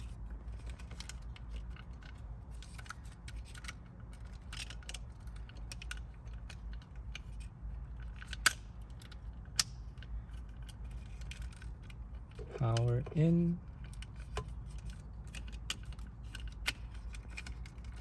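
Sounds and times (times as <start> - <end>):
plastic parts ticking and rustling: 0.0 - 18.0
steady low hum: 0.0 - 18.0.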